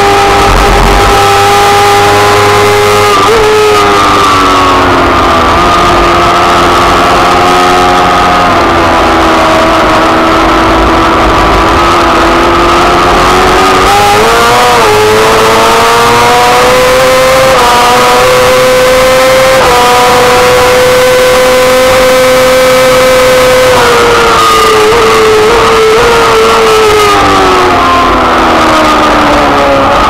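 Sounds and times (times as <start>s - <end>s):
racing engine at high revs: 0.0s - 30.0s.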